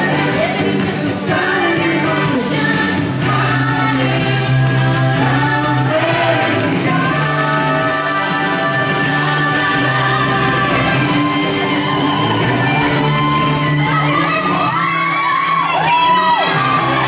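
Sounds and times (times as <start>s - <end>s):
backing track with bass line: 0.0s - 17.0s
women singing pop song: 0.0s - 17.0s.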